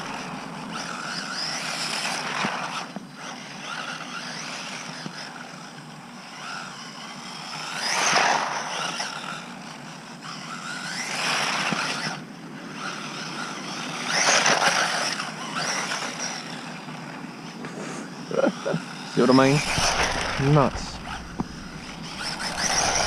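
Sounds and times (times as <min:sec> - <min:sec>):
toy truck electric motor whining: 0:00.0 - 0:23.0.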